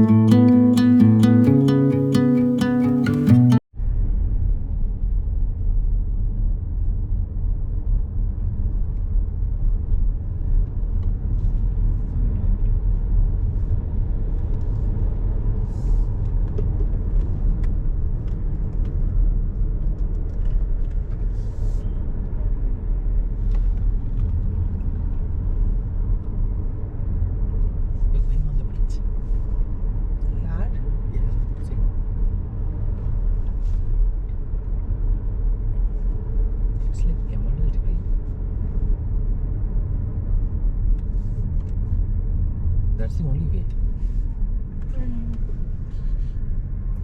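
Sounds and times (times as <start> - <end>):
car road rumble and tyre noise: 0.0 - 47.0.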